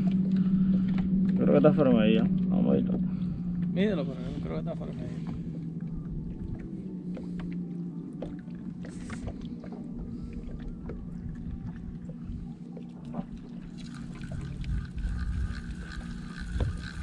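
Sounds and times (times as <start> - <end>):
boat motor humming: 0.0 - 17.0
water splashing against hull: 0.0 - 17.0.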